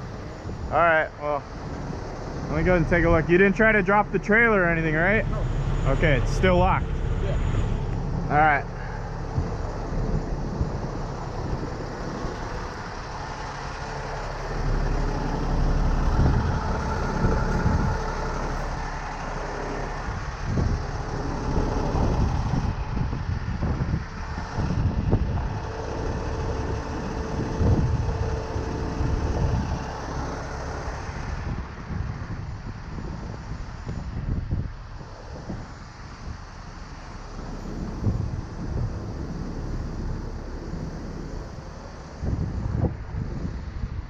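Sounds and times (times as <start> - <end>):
truck diesel engine running: 0.0 - 44.0.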